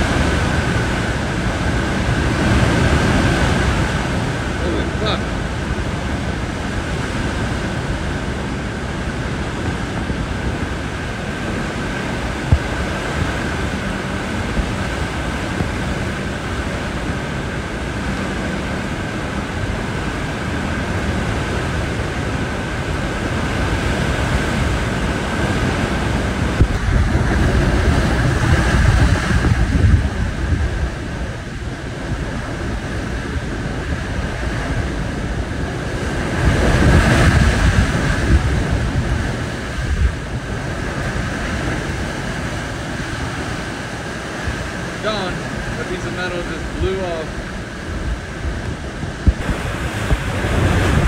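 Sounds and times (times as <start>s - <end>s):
strong wind buffeting microphone: 0.0s - 51.0s.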